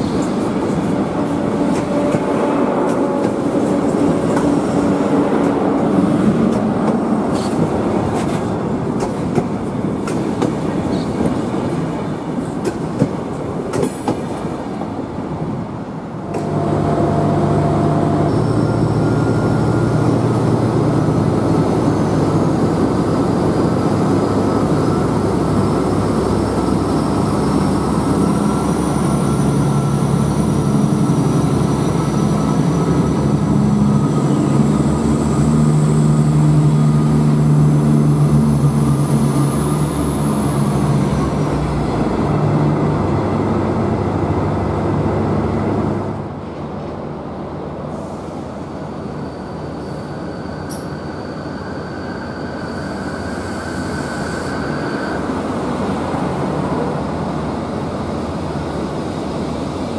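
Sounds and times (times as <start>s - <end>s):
diesel train accelerating past: 0.0s - 59.9s.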